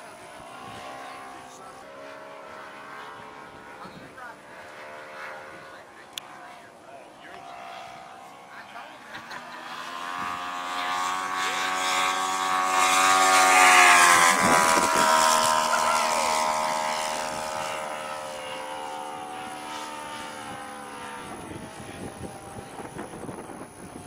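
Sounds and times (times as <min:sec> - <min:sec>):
model airplane engine passing: 0:00.0 - 0:24.0.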